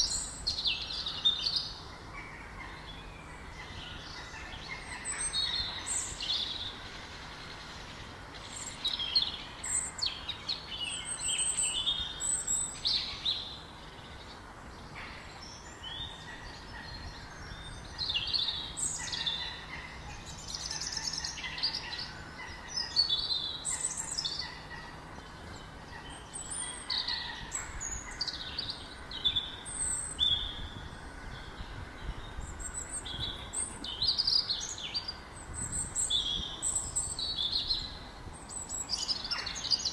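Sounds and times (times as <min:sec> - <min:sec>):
birds chirping and singing: 0:00.0 - 0:39.9
faint steady hiss: 0:00.0 - 0:39.9.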